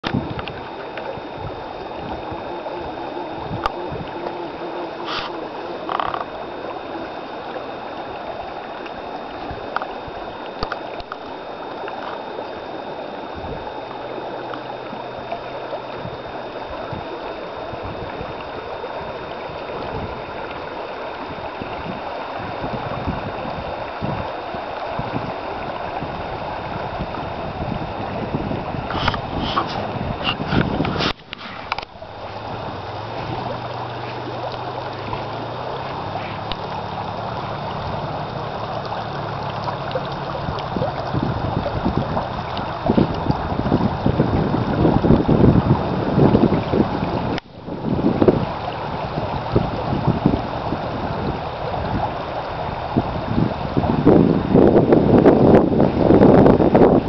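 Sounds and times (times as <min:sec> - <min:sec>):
creek rushing: 0:00.0 - 0:57.0
wind rumble on microphone: 0:00.0 - 0:57.0.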